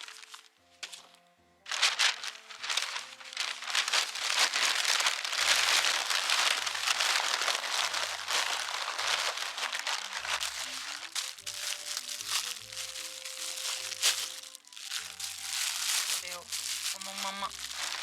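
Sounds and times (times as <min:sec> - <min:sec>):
newspaper and foil crinkling: 0:00.0 - 0:01.1, 0:01.7 - 0:18.0
background music with low notes: 0:00.0 - 0:18.0.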